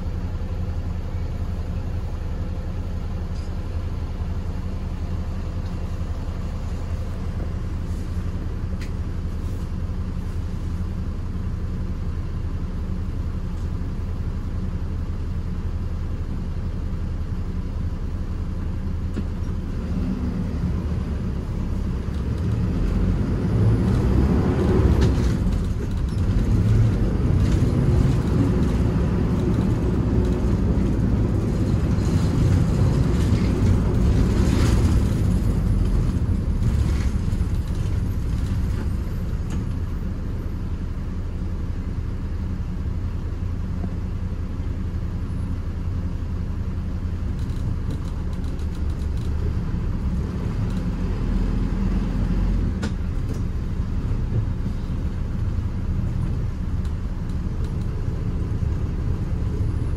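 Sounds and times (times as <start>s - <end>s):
minibus engine: 0.0s - 59.9s.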